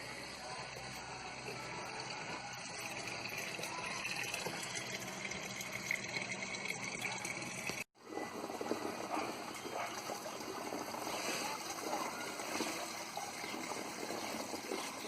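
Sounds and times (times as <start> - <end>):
water running into a container: 0.4 - 15.0.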